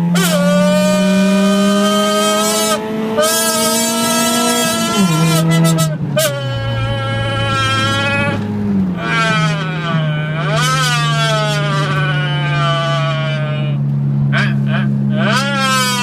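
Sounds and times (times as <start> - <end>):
person imitating engine noises: 0.0 - 16.0
steady low drone: 0.0 - 16.0.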